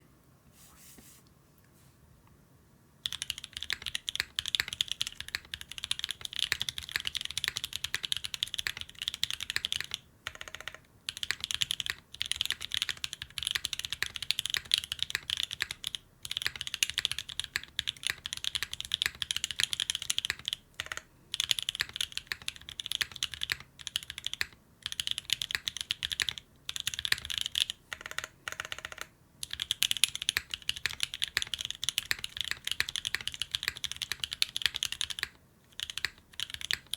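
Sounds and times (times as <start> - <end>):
mechanical keyboard typing: 3.0 - 36.9.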